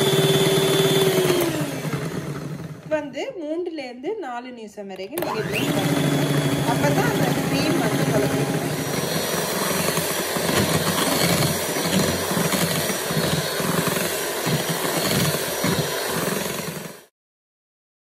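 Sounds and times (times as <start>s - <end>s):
electric hand mixer whipping cream: 0.0s - 3.0s, 5.1s - 17.1s.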